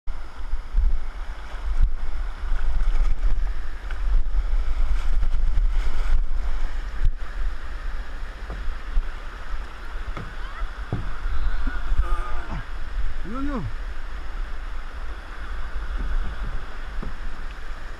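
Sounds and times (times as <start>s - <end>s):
water rushing: 0.1s - 17.9s
wind buffeting microphone: 0.1s - 17.9s.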